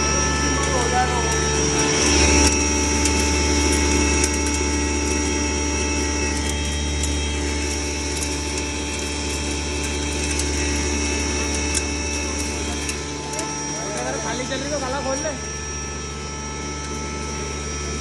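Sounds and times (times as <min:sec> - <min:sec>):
grinder motor hum: 0:00.0 - 0:18.0
mechanical rattle: 0:00.0 - 0:18.0.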